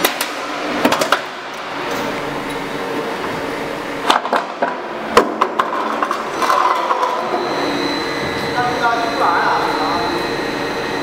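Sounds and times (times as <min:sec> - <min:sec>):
roll forming machine running: 0:00.0 - 0:11.0.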